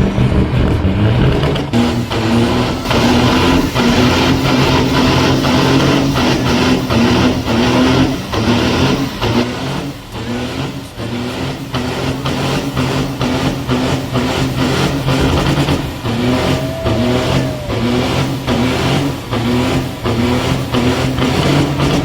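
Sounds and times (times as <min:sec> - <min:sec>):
vehicle engine revving hard: 0:00.0 - 0:22.0.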